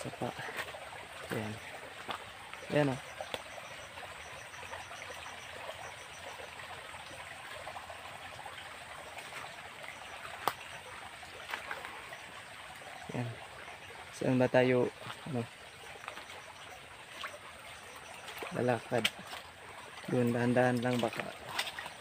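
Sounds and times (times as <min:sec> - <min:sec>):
creek flowing over stones: 0:00.0 - 0:22.0.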